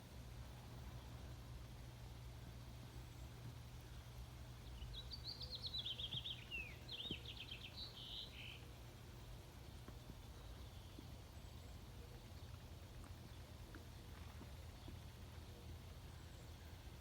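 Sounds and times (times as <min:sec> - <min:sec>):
songbird chirps and trills: 0:00.0 - 0:17.0
steady low hum: 0:00.0 - 0:17.0.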